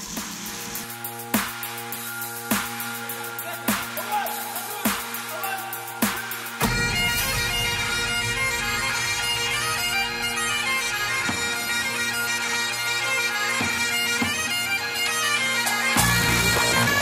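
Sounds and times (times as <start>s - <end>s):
bagpipe music with drones: 0.0s - 17.0s.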